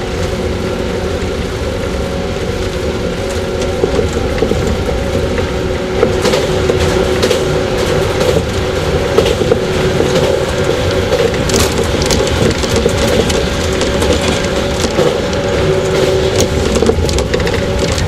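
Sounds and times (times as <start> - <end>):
train low rumble: 0.0 - 18.0
wheels clicking on rails: 0.0 - 18.0.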